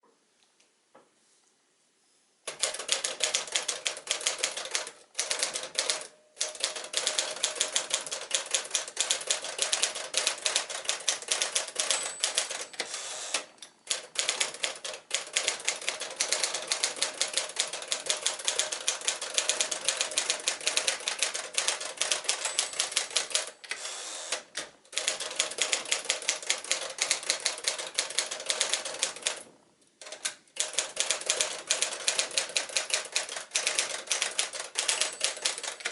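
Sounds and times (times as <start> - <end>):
manual typewriter clatter: 2.5 - 23.6, 24.3 - 29.4, 30.0 - 35.9.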